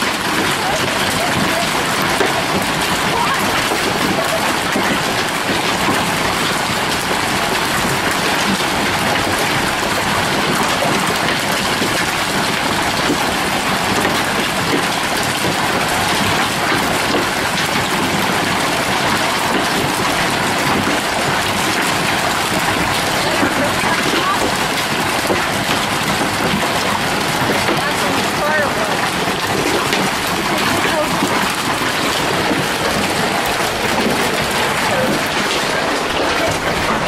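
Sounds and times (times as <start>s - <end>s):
hailstones clattering: 0.0s - 37.0s.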